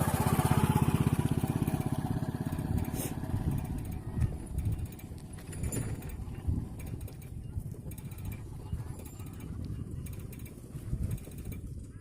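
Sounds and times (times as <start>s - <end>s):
small engine putter: 0.0s - 12.0s.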